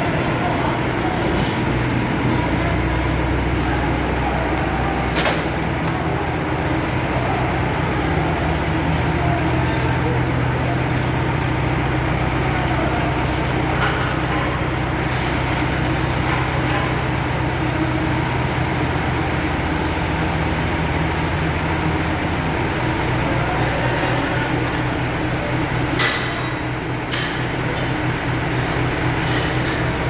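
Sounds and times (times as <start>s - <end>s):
heavy machine engine running: 0.0s - 30.0s.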